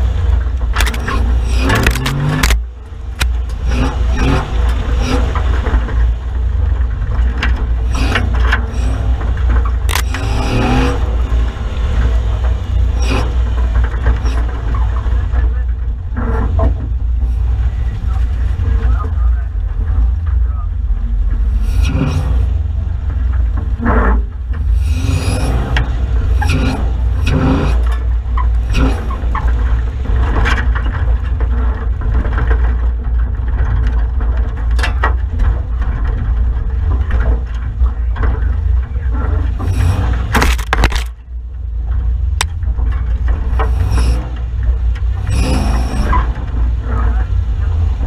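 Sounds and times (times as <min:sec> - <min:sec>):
loud clatter: 0:00.0 - 0:48.0
vehicle engine rumble: 0:00.0 - 0:48.0
vehicle knocks and rattles: 0:00.0 - 0:48.0.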